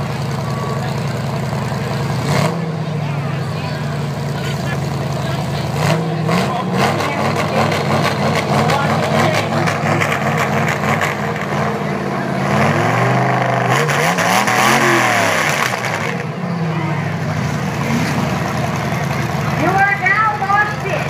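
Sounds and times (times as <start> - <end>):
car engines idling: 0.0 - 21.0
engine revving: 0.0 - 21.0.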